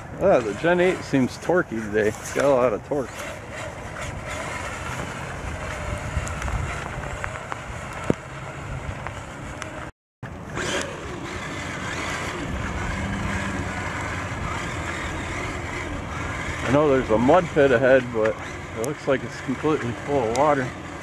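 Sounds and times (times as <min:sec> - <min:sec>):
toy car electric motor running: 0:00.2 - 0:09.8, 0:10.5 - 0:21.0.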